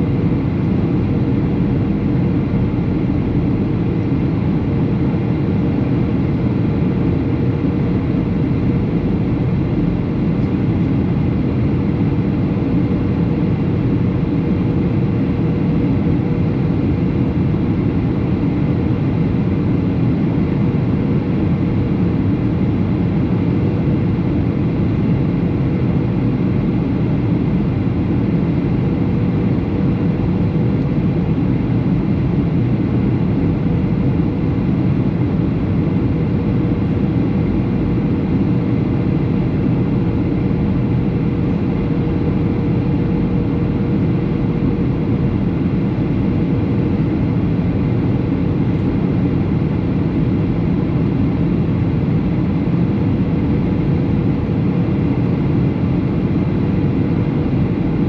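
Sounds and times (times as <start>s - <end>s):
aircraft engines droning: 0.0s - 58.0s.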